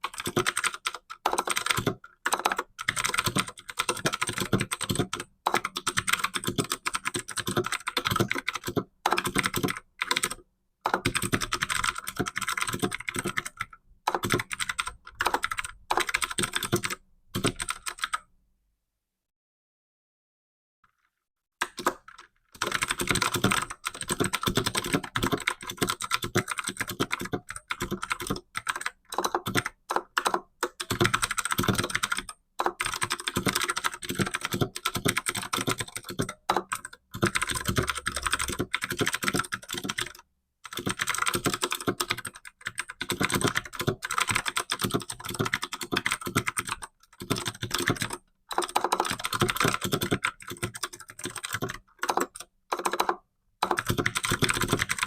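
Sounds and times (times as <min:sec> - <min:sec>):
fast typing on computer keyboard: 0:00.0 - 0:18.2, 0:21.6 - 0:55.0.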